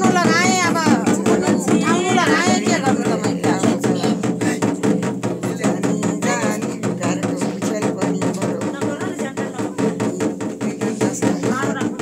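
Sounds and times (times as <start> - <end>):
music with fast percussion beat: 0.0 - 12.0
wavering vocal line: 0.0 - 12.0.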